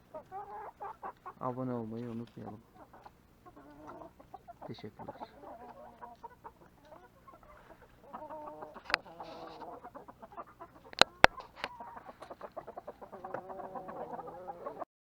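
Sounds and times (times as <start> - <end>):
chickens clucking: 0.0 - 14.9.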